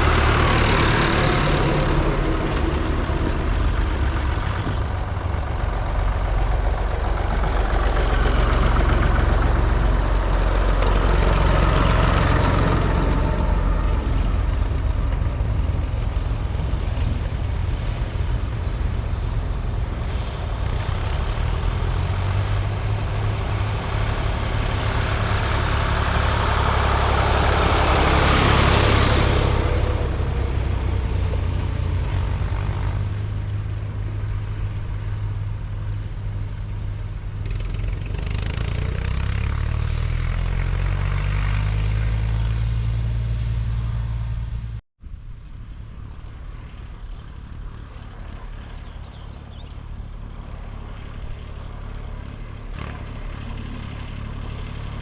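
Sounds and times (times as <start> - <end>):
tractor engines driving past: 0.0 - 55.0.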